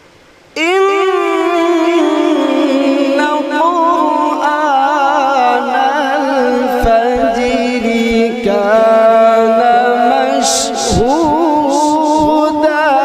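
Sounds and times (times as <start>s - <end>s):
man reciting melodically: 0.6s - 13.0s.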